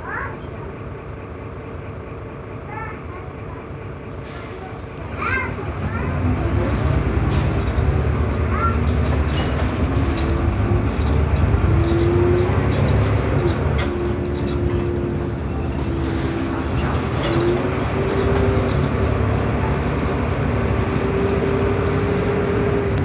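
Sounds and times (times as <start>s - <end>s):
bus drivetrain and road rumble: 0.0s - 23.0s.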